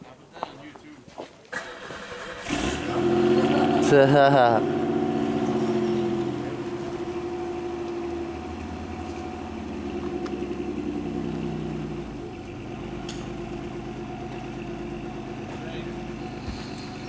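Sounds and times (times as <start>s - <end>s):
engine running steadily: 2.0s - 17.0s.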